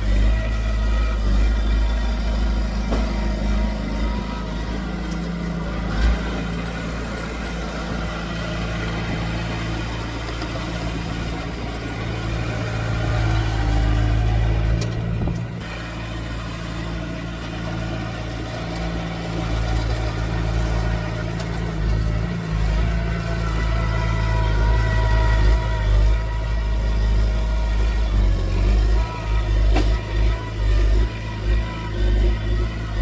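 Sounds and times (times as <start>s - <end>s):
diesel engine of heavy machinery: 0.0s - 33.0s.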